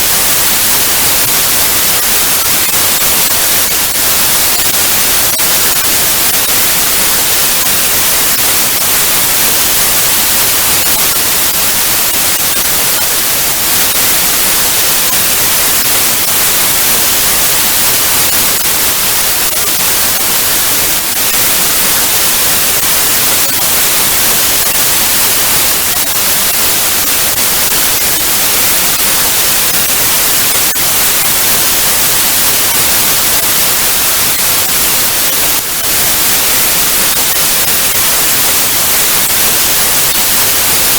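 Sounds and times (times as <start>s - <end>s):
tv static hiss: 0.0s - 40.9s.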